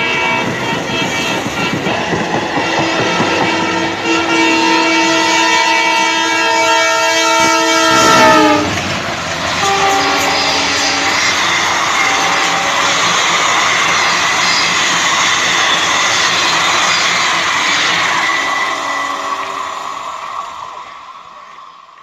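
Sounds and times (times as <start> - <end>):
train wheels rushing on rails: 0.0 - 22.0.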